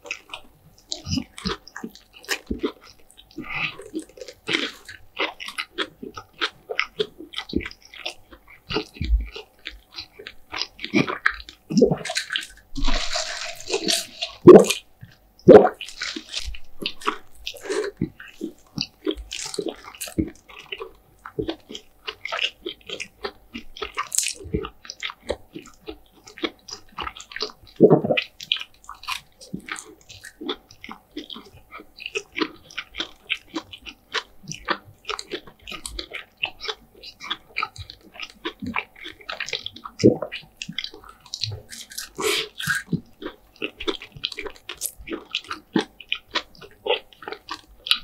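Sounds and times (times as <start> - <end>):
close chewing and crunching: 0.0 - 48.0.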